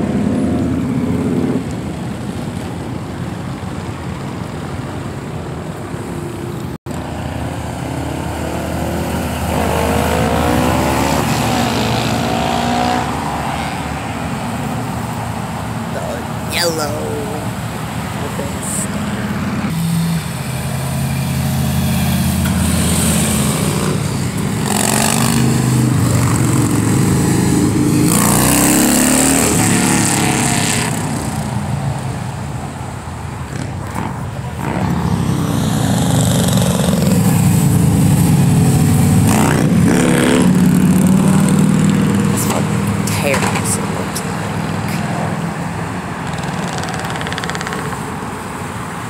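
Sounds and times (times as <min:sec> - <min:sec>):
passing cars rumbling: 0:00.0 - 0:49.0.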